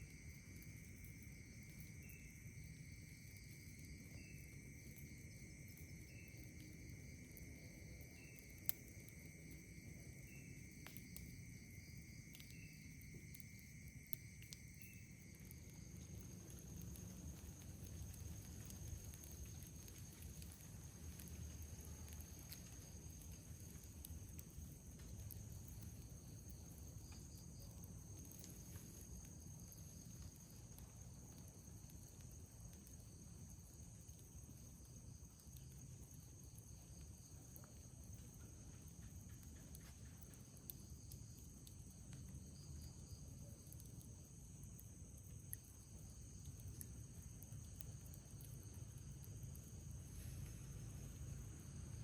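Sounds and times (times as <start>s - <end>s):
campfire crackling and popping: 0.0s - 52.0s
crickets trilling: 0.0s - 52.0s.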